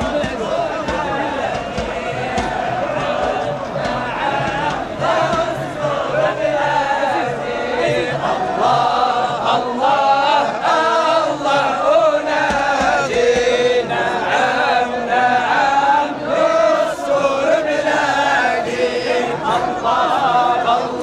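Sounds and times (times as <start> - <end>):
crowd chanting in unison: 0.0 - 21.0.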